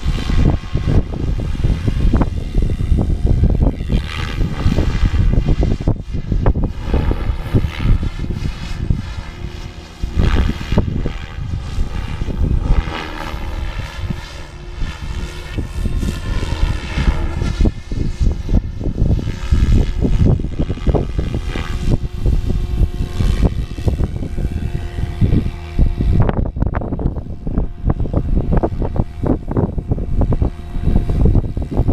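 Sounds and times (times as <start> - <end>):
rc helicopter rotor whine: 0.0 - 31.9
wind buffeting microphone: 0.0 - 31.9.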